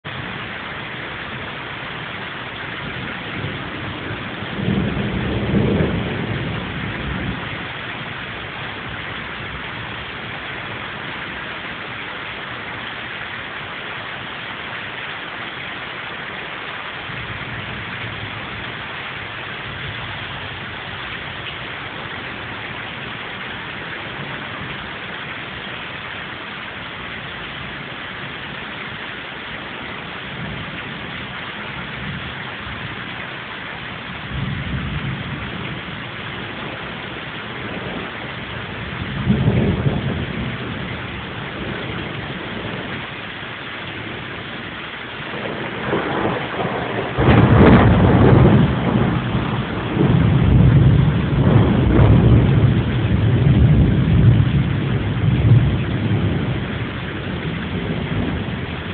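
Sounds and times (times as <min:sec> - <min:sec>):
steady rain falling: 0:00.0 - 0:58.9
thunder rumbling: 0:00.0 - 0:58.9.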